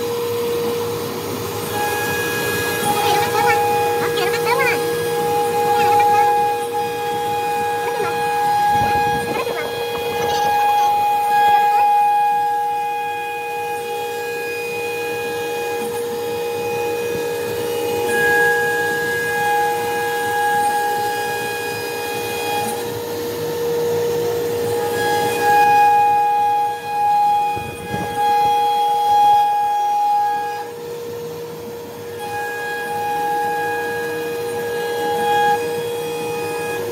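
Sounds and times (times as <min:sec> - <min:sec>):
router spindle whine: 0:00.0 - 0:36.9.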